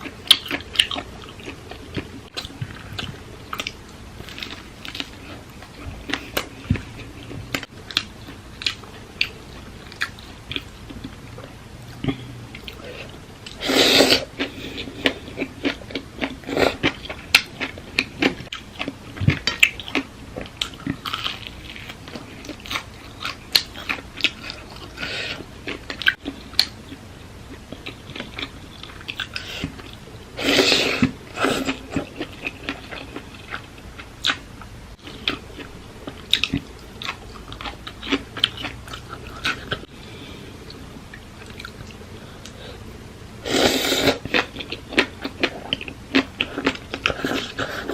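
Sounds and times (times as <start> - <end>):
person chewing crunchy food: 0.0 - 39.9, 40.6 - 42.8, 43.5 - 47.9.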